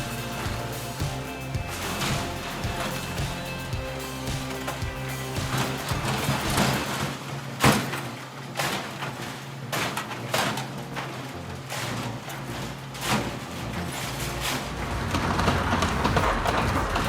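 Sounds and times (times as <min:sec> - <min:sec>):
music: 0:00.0 - 0:08.0, 0:10.0 - 0:17.0
low steady drone: 0:00.0 - 0:17.0.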